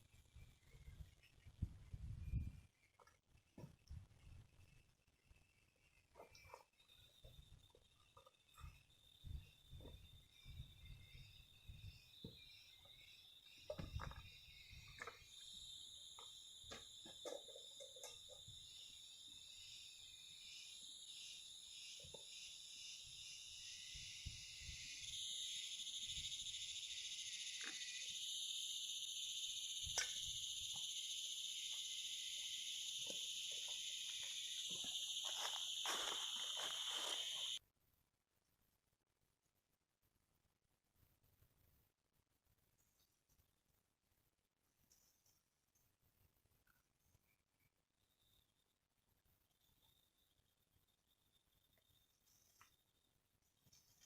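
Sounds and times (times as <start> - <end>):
insect chorus drone: 0.0 - 37.6, 46.6 - 54.0.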